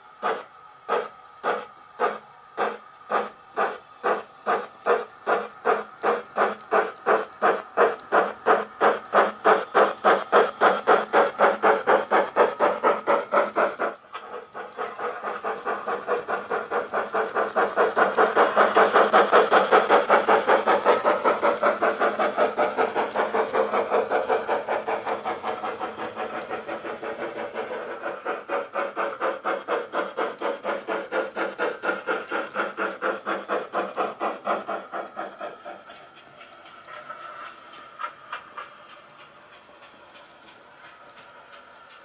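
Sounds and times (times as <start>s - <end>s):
model steam locomotive chuffs: 0.0s - 42.0s.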